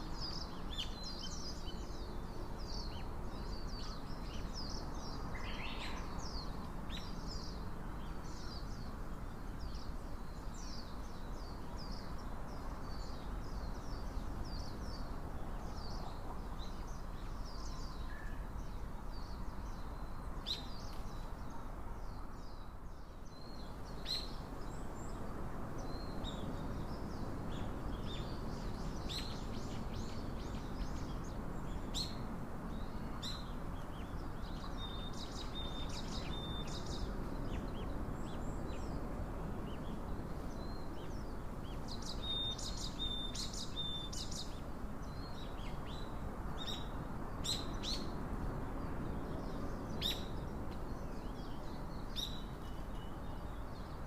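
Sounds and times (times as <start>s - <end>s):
small songbirds chirping: 0.0s - 54.0s
steady low background noise: 0.0s - 54.0s.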